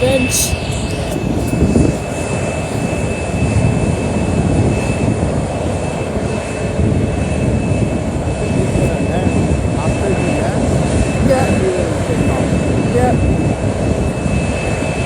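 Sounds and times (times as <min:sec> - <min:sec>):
airliner engines rumbling and whining: 0:00.0 - 0:15.0.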